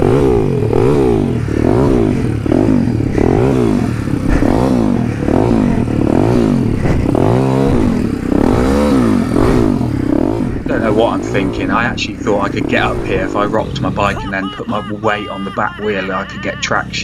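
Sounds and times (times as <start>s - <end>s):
pit bike engine revving: 0.0s - 16.6s.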